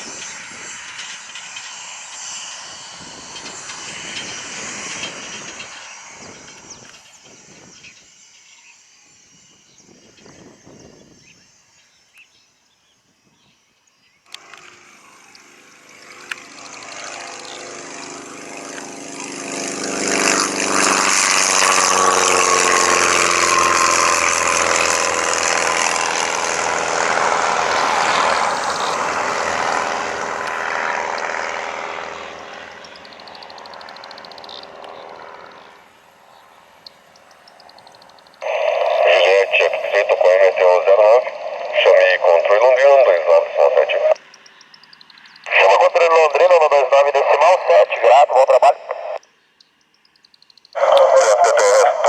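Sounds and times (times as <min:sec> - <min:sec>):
aircraft flying past: 0:00.0 - 0:11.6, 0:14.3 - 0:49.3, 0:50.7 - 0:52.0.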